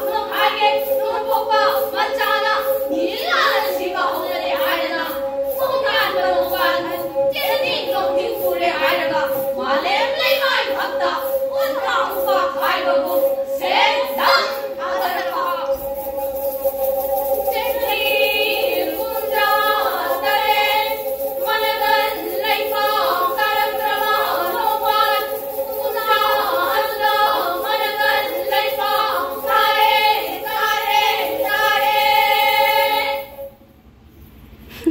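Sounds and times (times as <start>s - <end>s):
women singing in unison: 0.0s - 16.1s, 16.8s - 33.5s
bowed single-string fiddle: 0.0s - 33.5s.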